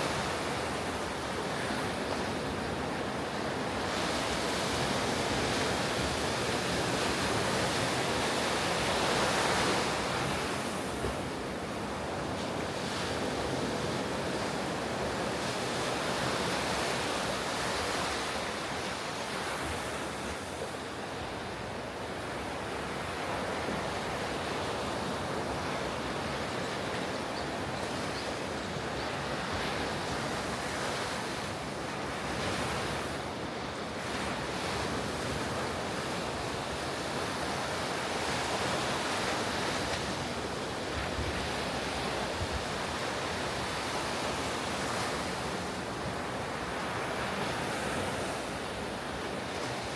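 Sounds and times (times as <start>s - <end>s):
ocean surf breaking on beach: 0.0s - 49.9s.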